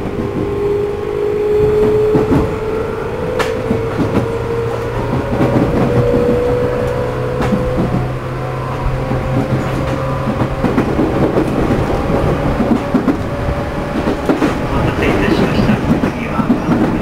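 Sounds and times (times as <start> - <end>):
train motor hum: 0.0 - 17.0
wheels rumbling on rails: 0.0 - 17.0.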